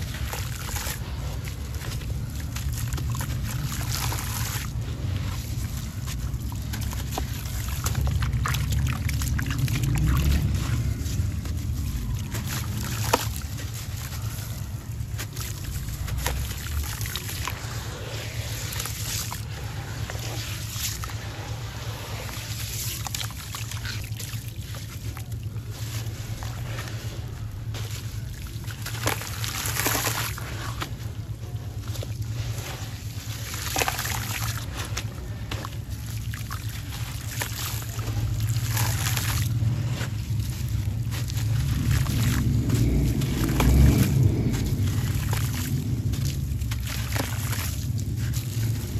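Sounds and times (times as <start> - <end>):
low hum: 0.0 - 48.9
low rumble: 0.0 - 48.9
water sloshing: 0.0 - 48.9
wet cement crumbling in hands: 0.0 - 48.9.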